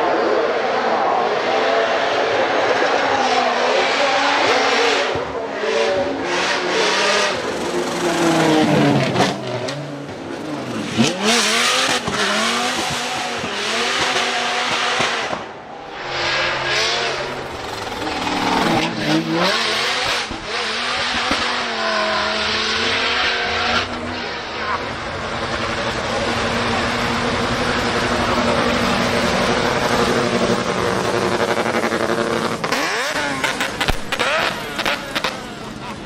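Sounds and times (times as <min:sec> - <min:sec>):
car engine revving hard: 0:01.4 - 0:36.0.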